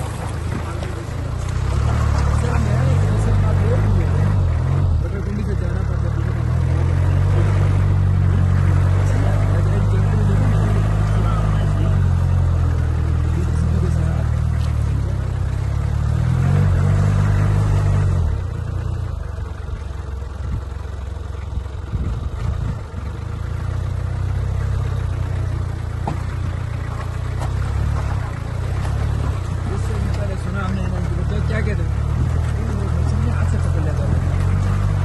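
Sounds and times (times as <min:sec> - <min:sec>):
vehicle engine drone: 0:00.0 - 0:35.0.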